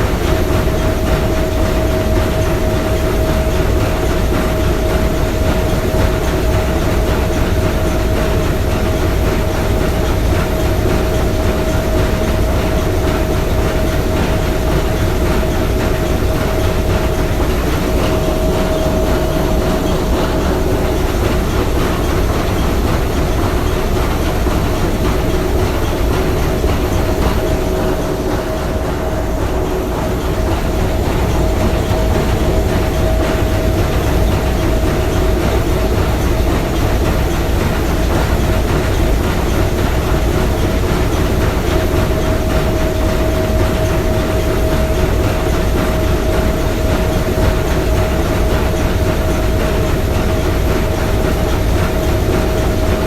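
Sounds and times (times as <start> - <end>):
steady whine: 0.0 - 53.0
steam engine running: 0.0 - 53.0.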